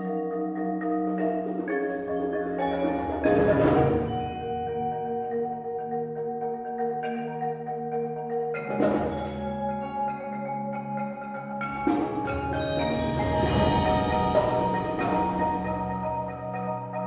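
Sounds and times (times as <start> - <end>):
marimba ensemble playing chords: 0.0 - 17.0.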